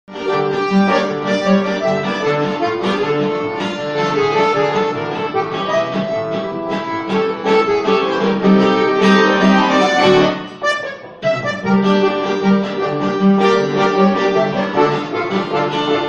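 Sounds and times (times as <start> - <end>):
accordion chords: 0.1 - 16.0
plucked acoustic guitar: 0.1 - 16.0.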